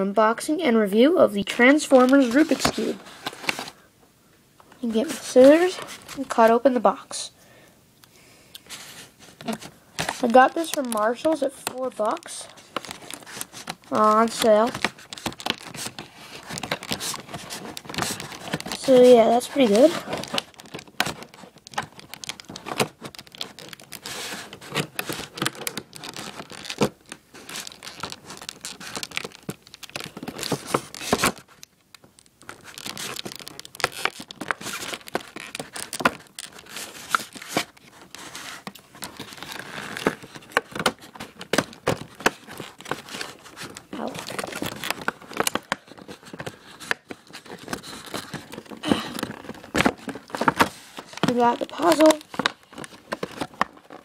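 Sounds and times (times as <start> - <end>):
plastic packaging crinkling: 1.4 - 3.9, 4.6 - 6.6, 8.6 - 54.0.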